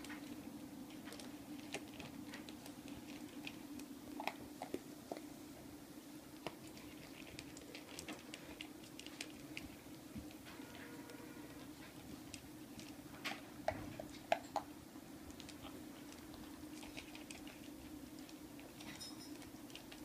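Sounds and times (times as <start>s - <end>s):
puppy crunching dry kibble: 0.0s - 20.0s.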